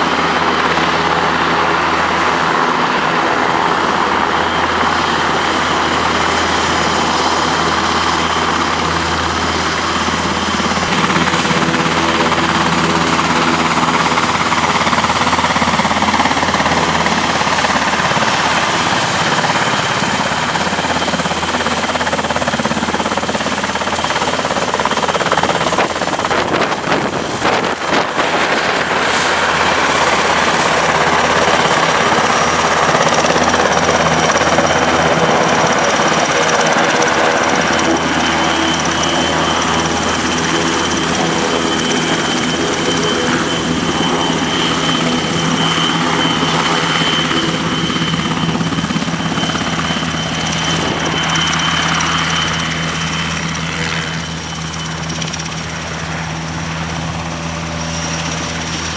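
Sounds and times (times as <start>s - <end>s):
helicopter running: 0.0s - 58.9s
high turbine whistle: 2.9s - 58.9s.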